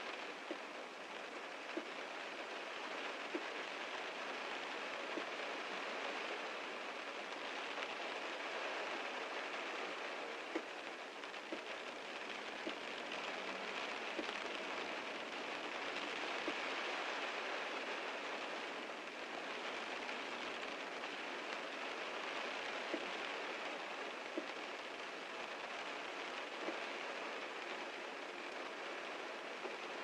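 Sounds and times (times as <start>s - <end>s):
heavy rain on a car: 0.0s - 30.0s.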